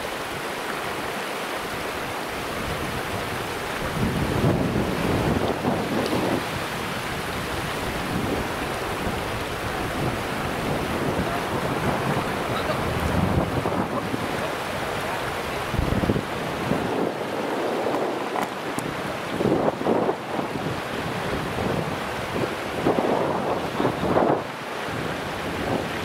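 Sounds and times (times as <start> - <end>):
wind buffeting microphone: 1.7 - 26.0
steady rushing noise: 1.9 - 26.0.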